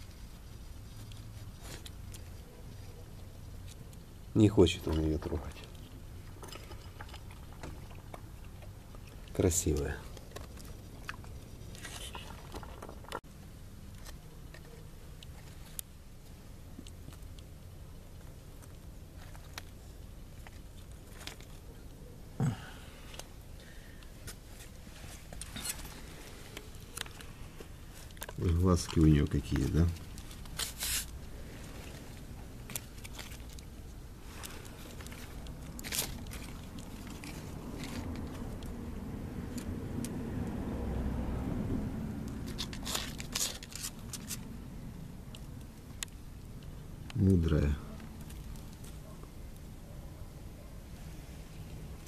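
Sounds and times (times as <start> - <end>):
faint clicks and rustles: 0.0 - 39.7, 42.2 - 52.0
crackles and scrapes: 0.0 - 40.6, 42.2 - 52.0.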